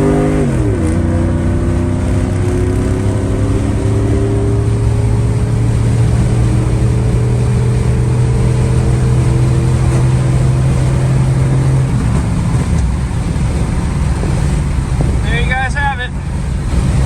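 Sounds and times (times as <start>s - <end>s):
car engine with loud exhaust: 0.0s - 17.0s.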